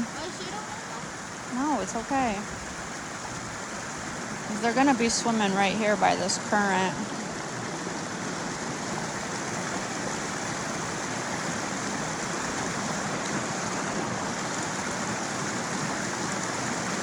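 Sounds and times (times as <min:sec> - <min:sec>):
creek water rushing over riffle: 0:00.0 - 0:17.0.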